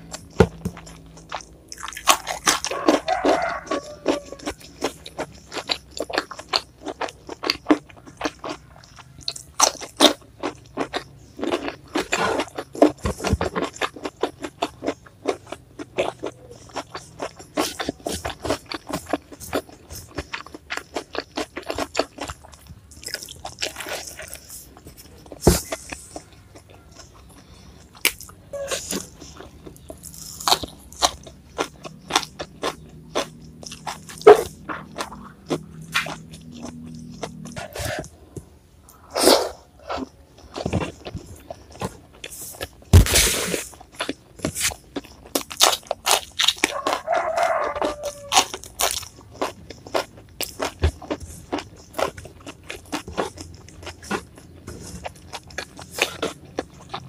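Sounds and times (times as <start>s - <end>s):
crunching and chewing vegetables: 0.0s - 57.0s.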